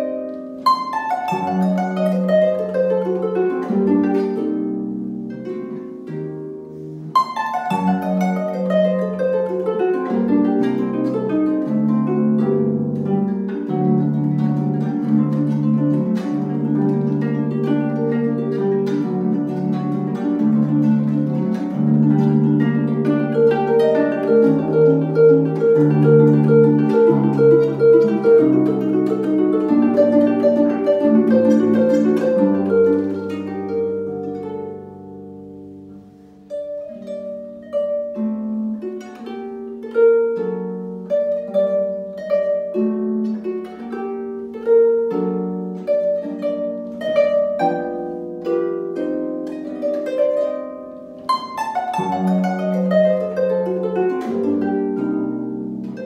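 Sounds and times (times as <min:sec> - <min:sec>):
harp playing solo: 0:00.0 - 0:56.0.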